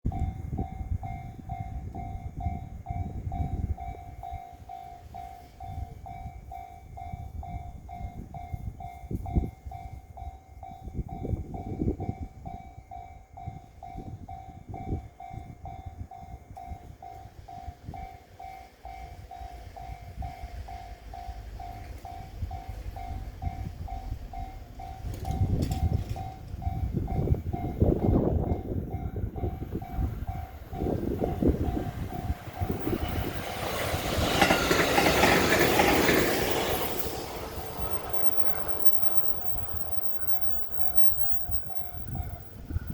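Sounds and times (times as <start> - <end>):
train rumble: 0.0 - 42.9
wind buffeting microphone: 0.0 - 42.9
crossing alarm bell ringing: 0.1 - 42.9.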